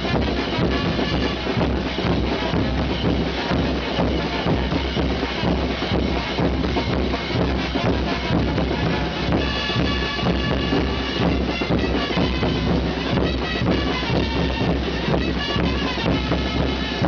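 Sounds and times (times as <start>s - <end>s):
drums beating: 0.0s - 17.0s
high-pitched wind instruments: 0.0s - 17.0s.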